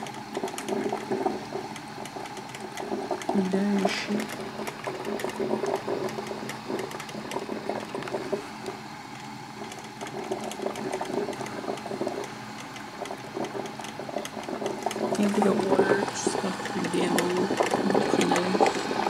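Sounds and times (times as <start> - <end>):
coffee maker gurgling: 0.0 - 19.0
low machine hum: 0.0 - 19.0.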